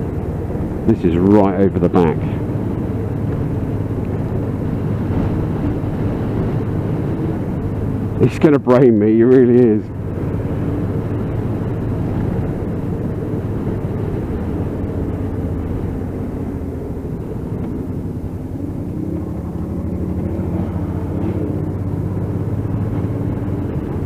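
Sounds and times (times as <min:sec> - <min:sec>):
motorcycle engine running: 0:00.0 - 0:24.0
wind rush: 0:00.0 - 0:24.0.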